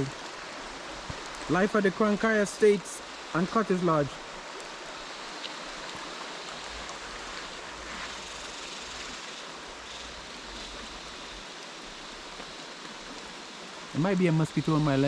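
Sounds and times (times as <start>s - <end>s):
river water flowing over stones: 0.0s - 15.0s.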